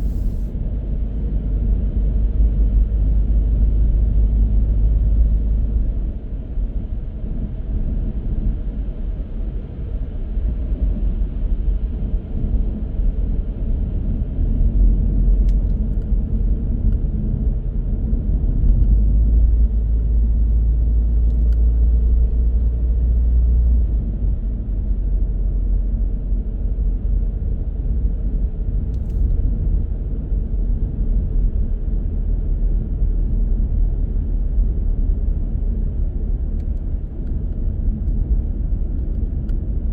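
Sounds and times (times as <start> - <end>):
car interior road noise: 0.0 - 39.9.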